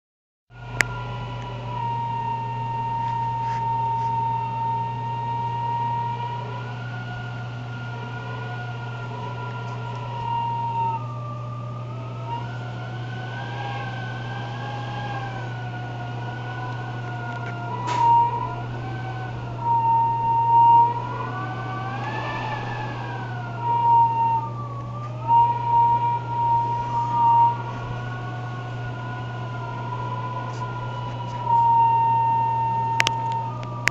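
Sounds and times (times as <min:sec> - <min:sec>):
low steady hum: 0:00.5 - 0:33.9
high-pitched whistle: 0:00.6 - 0:33.9
higher whistle tone: 0:00.6 - 0:33.9.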